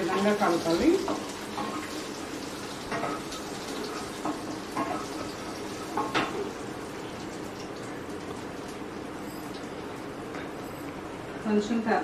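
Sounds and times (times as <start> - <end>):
oil sizzling: 0.0 - 11.3.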